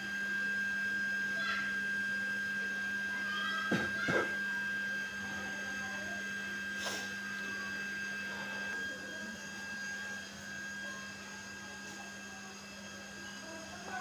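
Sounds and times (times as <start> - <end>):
machine hum with high whine: 0.0 - 14.0.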